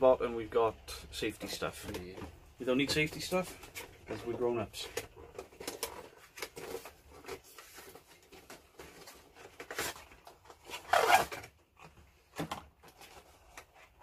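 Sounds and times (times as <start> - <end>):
packaging rustling and scraping: 1.4 - 14.0.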